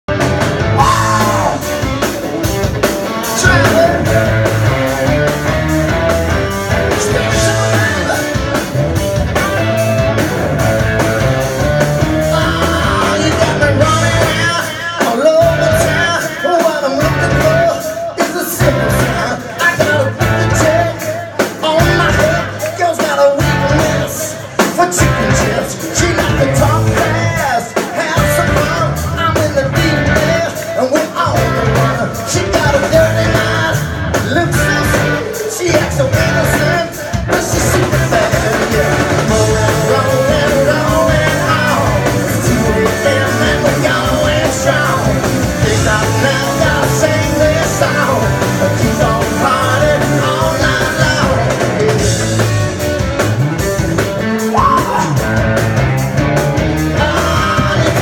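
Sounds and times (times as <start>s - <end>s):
bass guitar: 0.0s - 58.0s
electric guitar: 0.1s - 58.0s
steady drum beat: 0.1s - 58.0s
man singing lead: 0.6s - 2.2s, 2.8s - 52.8s, 54.2s - 55.6s, 56.6s - 58.0s.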